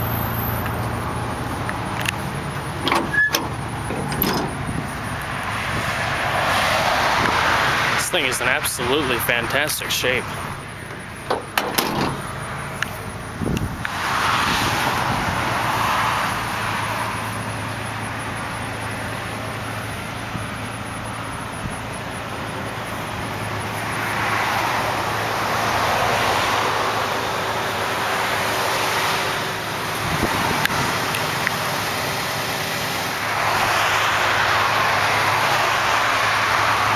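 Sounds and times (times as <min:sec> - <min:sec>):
pickup engine idling: 0:00.0 - 0:06.4, 0:07.2 - 0:13.9, 0:16.3 - 0:25.5, 0:26.6 - 0:36.9
vehicles passing by: 0:00.0 - 0:36.9.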